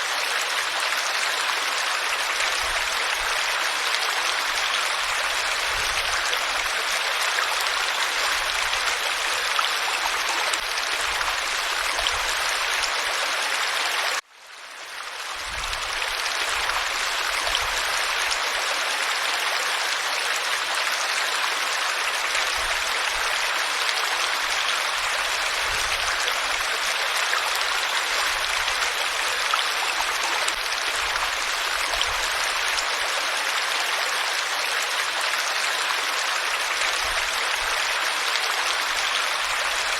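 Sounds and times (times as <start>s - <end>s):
water rushing: 0.0s - 14.2s, 15.2s - 39.9s.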